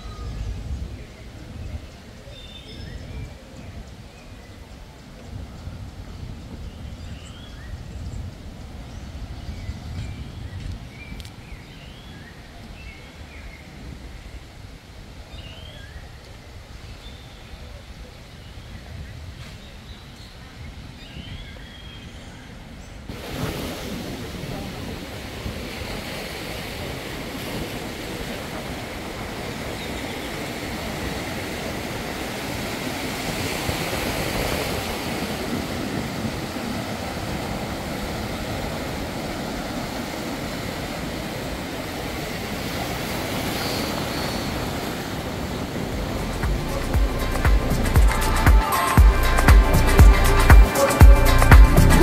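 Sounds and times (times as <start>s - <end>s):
sea surf at the shore: 0.0s - 52.0s
wind: 0.0s - 52.0s.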